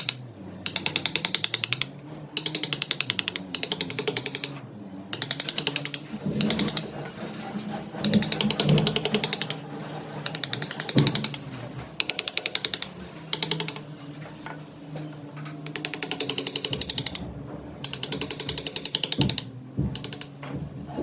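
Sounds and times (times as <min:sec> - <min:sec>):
tool ticking on spinning wood: 0:00.0 - 0:13.9, 0:15.5 - 0:20.6
lathe motor hum: 0:00.0 - 0:21.0.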